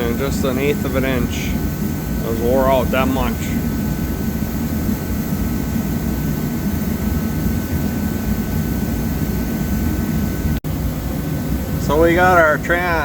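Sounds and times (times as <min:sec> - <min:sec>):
low mechanical rumble: 0:00.0 - 0:13.0
thin high whine: 0:00.0 - 0:13.0.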